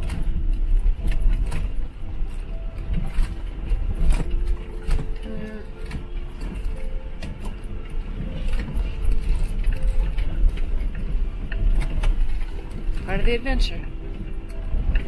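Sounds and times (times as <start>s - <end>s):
deep rumble of tyres: 0.0s - 15.0s
knocks and rattles of van body: 0.0s - 15.0s.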